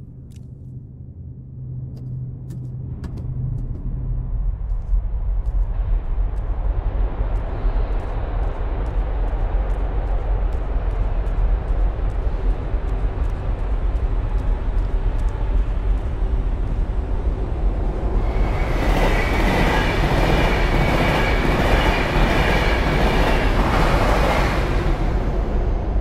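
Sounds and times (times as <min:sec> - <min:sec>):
deep mechanical rumble: 0:00.0 - 0:21.5.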